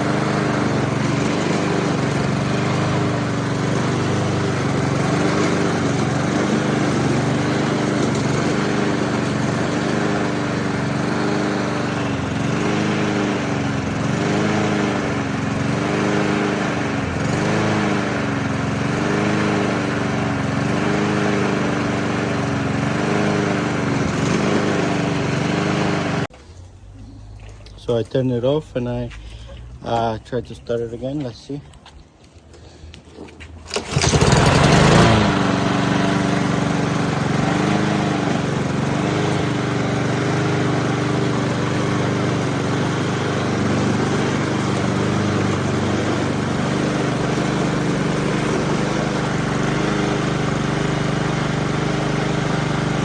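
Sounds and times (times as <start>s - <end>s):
lawn mower engine surging: 0.0s - 31.5s, 32.6s - 53.0s.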